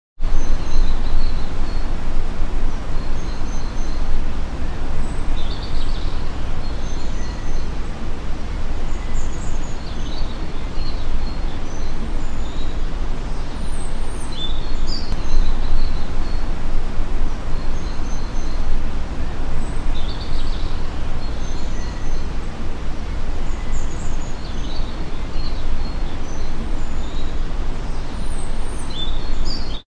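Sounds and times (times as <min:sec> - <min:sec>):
low background rumble: 0:00.2 - 0:29.7.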